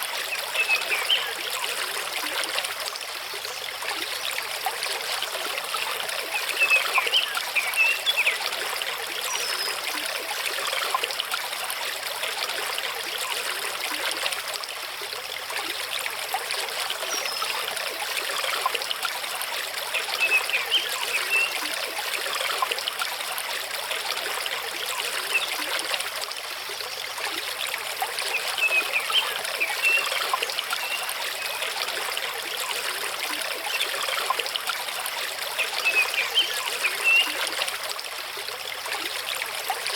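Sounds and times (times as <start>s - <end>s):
water gurgling and trickling: 0.0s - 39.9s.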